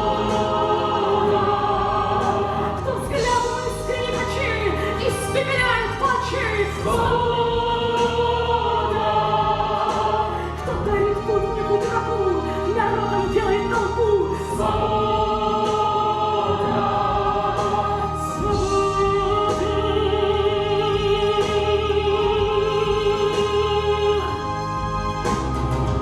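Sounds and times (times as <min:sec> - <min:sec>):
choir singing sustained notes: 0:00.0 - 0:26.0.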